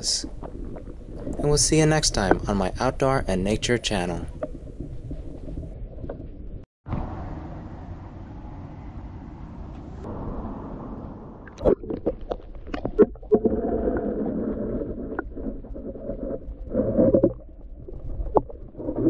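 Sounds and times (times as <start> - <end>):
muffled underwater water sloshing: 0.0 - 6.7, 9.8 - 19.0.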